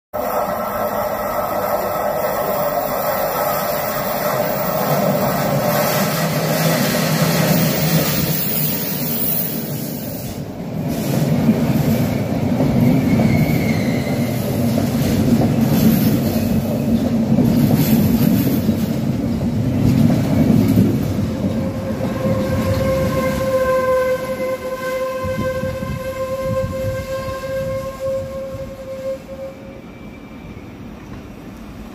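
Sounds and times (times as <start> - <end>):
train wheels rumbling on rails: 0.2 - 31.9.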